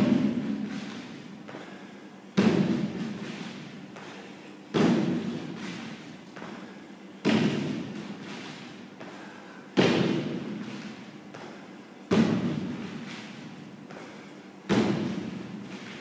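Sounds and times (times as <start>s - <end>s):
feet thudding on wooden box: 2.4s - 16.0s.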